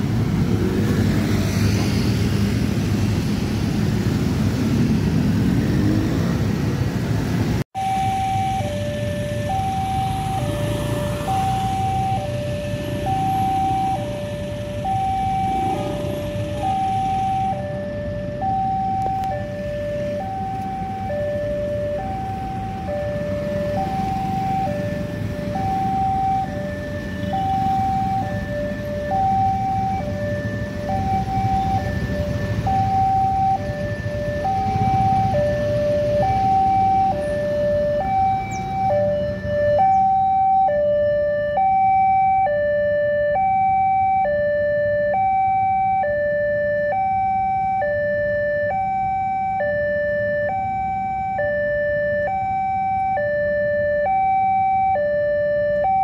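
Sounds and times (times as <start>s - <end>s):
low rumble of traffic: 0.0s - 56.0s
level crossing two-tone alarm: 7.8s - 56.0s.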